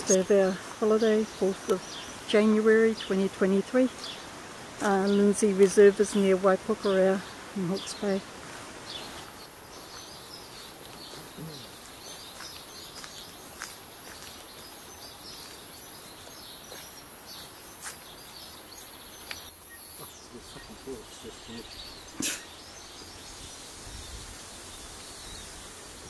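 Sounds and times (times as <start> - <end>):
bird chirps and calls: 0.0 - 8.2, 8.9 - 25.8.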